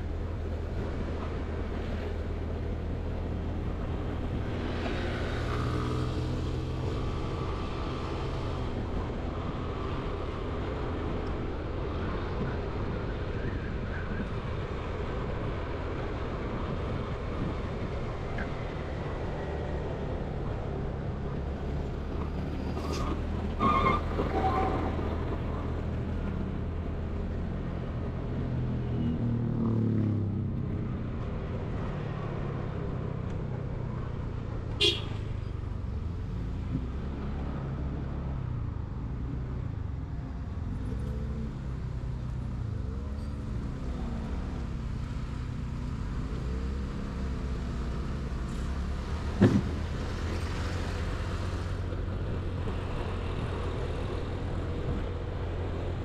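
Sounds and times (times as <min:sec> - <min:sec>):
vehicle engine and road drone: 0:00.0 - 0:56.0.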